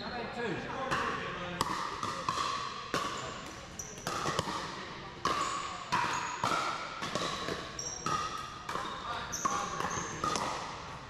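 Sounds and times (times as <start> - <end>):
paddles hitting ball: 0.9 - 11.0.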